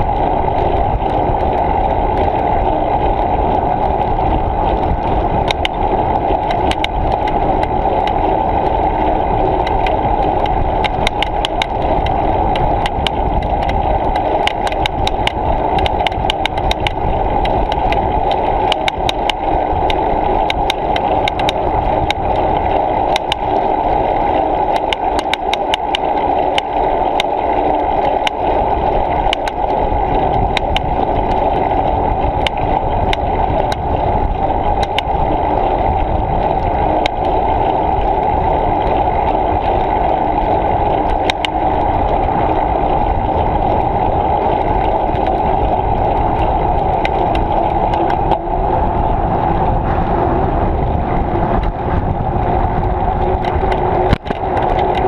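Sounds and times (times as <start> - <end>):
small clicks and rattles: 0.0 - 49.7, 51.5 - 55.0
bicycle tyre rumble: 0.0 - 55.0
wind noise: 0.0 - 55.0.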